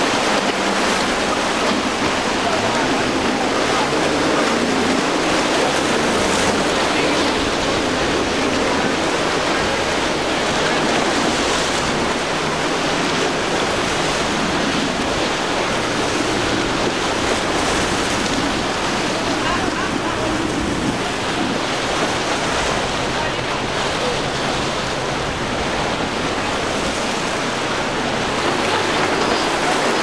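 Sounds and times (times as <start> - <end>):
breaking waves: 0.0 - 30.0
outboard engines droning: 0.0 - 30.0.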